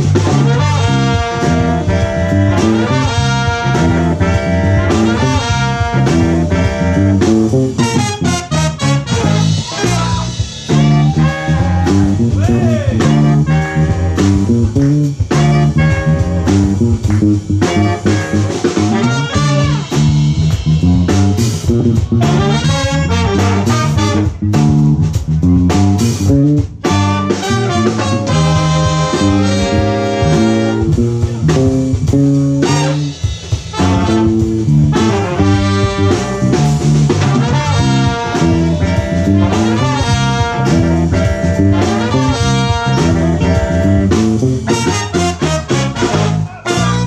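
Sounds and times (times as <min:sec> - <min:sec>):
horns playing melody: 0:00.0 - 0:25.0, 0:26.0 - 0:47.0
drum kit: 0:00.0 - 0:47.0.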